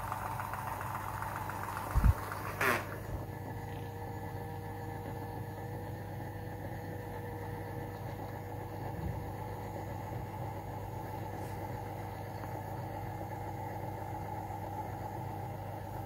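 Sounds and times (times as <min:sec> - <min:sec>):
small electric motor humming with whine: 0:00.0 - 0:16.0.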